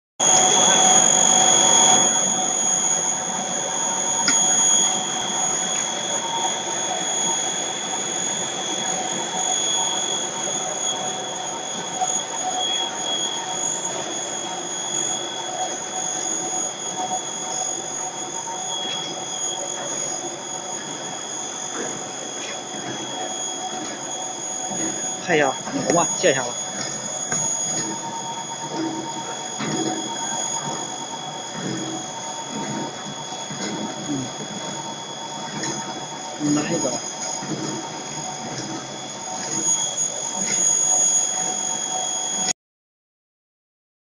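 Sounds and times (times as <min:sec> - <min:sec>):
machine mechanical drone: 0:00.2 - 0:42.5
high machine whine: 0:00.2 - 0:42.6.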